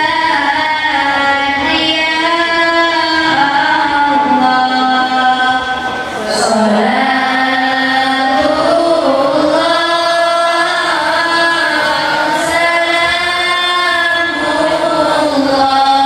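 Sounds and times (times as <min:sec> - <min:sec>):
girls singing through microphones: 0:00.0 - 0:16.0.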